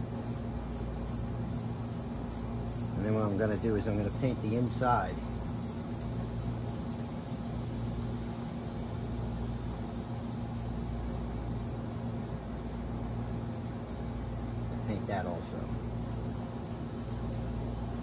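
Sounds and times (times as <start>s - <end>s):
cricket chirping: 0.0s - 18.0s
low steady hum: 0.0s - 18.0s.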